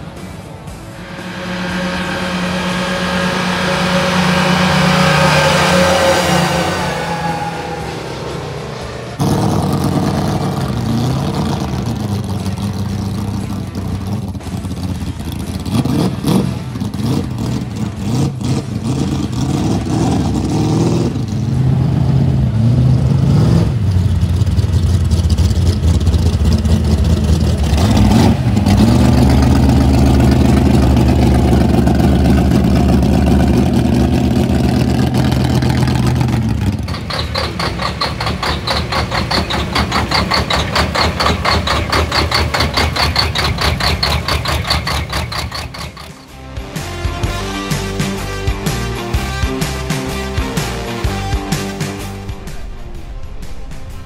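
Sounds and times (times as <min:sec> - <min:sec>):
race car engines revving: 0:00.0 - 0:54.0
engine idling with low rumble: 0:07.5 - 0:20.5, 0:21.2 - 0:54.0.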